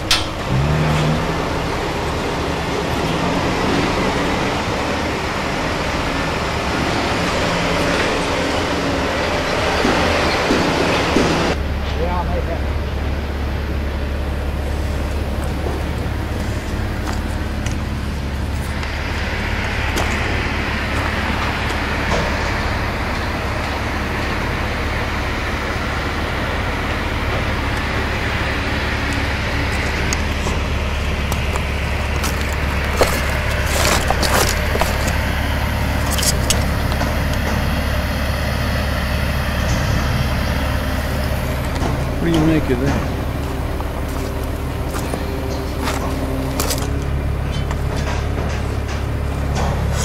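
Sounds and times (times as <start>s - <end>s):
diesel engine rumbling: 0.0s - 50.0s.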